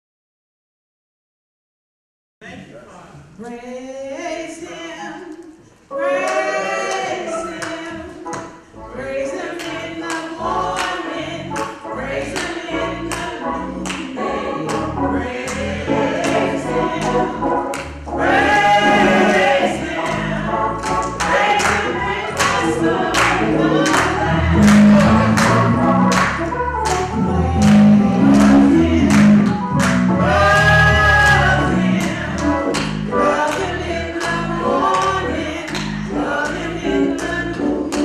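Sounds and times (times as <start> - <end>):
gospel choir singing: 4.1 - 38.0
hand-clapping beat: 6.3 - 8.6, 9.5 - 38.0.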